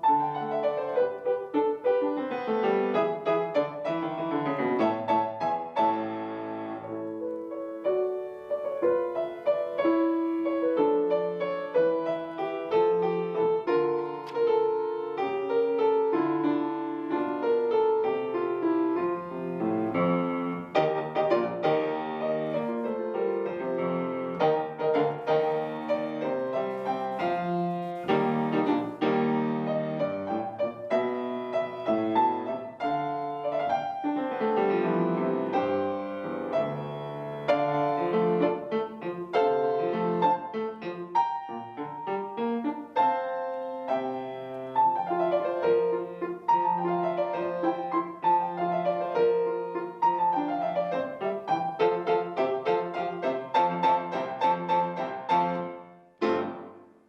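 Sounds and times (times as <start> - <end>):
solo piano hymn: 0.0 - 57.0.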